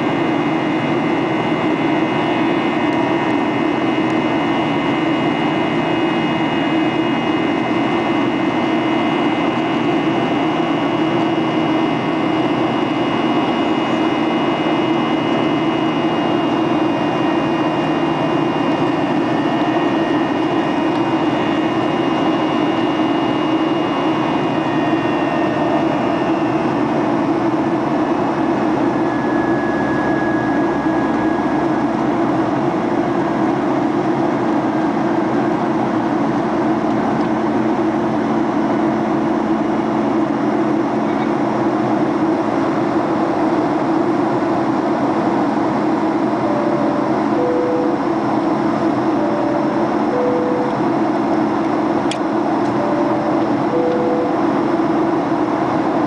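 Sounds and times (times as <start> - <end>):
faint high whining tones: 0.0 - 56.0
jet engines droning: 0.0 - 56.0.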